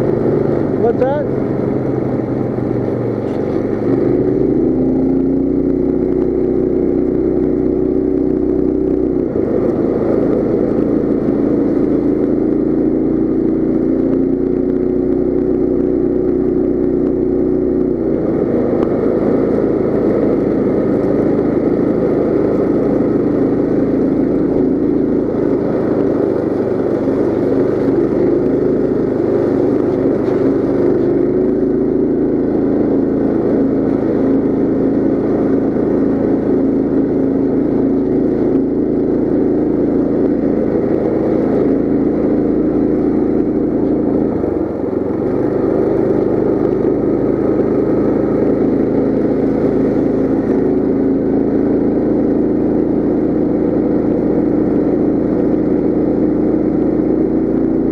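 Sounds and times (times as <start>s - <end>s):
small engine running: 0.0s - 57.9s.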